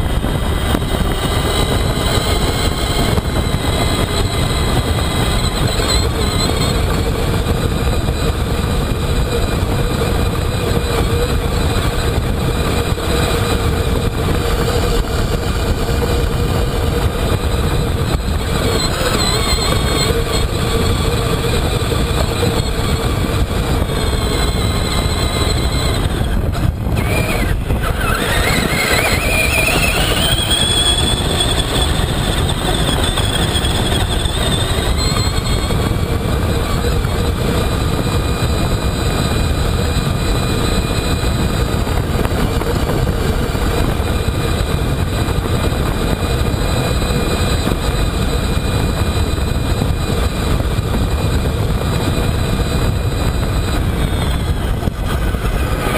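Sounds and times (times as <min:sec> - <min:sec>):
electric motor whining: 0:00.0 - 0:55.9
steady rushing noise: 0:00.0 - 0:55.9.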